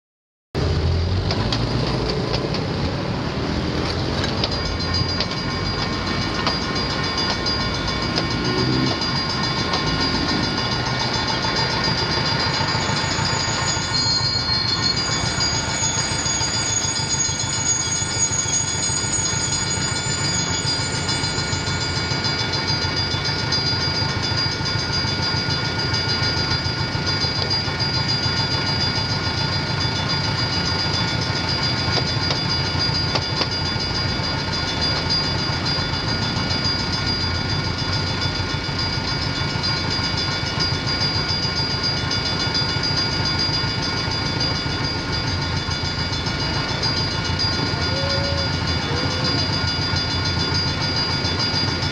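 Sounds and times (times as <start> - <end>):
clickety-clack of train wheels: 0.6 - 51.9
diesel locomotive rumbling: 0.6 - 51.9
railroad crossing bells ringing: 0.6 - 51.9
high wheel squeal: 3.4 - 51.9.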